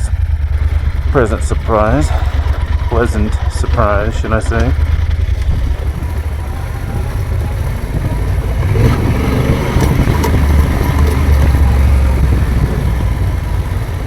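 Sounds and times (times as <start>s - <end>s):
motorcycle running on dirt road: 0.0s - 14.0s
wind rumble on microphone: 2.1s - 14.0s.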